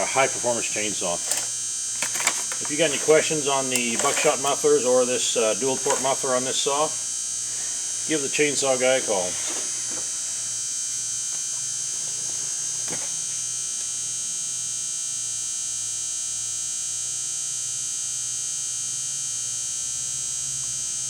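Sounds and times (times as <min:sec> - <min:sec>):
high-pitched electrical whine: 0:00.0 - 0:21.0.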